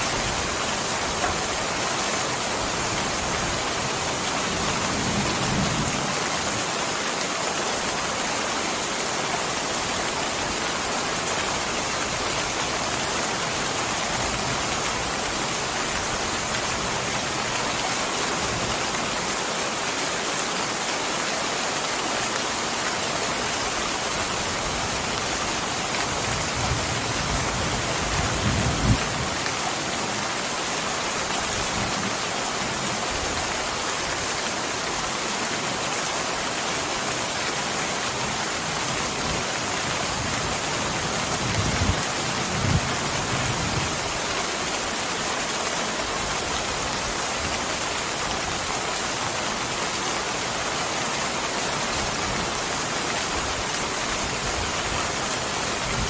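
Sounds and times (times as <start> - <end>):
dense rainfall: 0.0 - 56.0.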